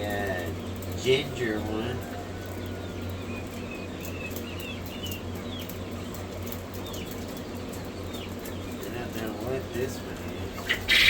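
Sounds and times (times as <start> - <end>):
chicks peeping: 0.0 - 11.0
steady low hum: 0.0 - 11.0.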